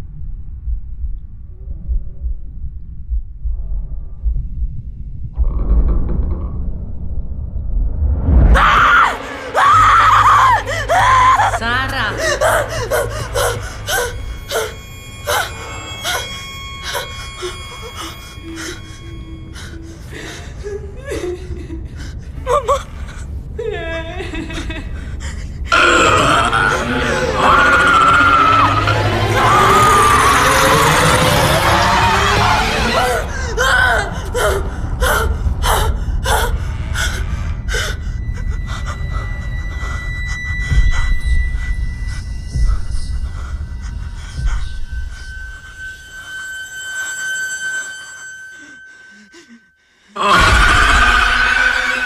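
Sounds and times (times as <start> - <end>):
low rumble: 0.0 - 47.0.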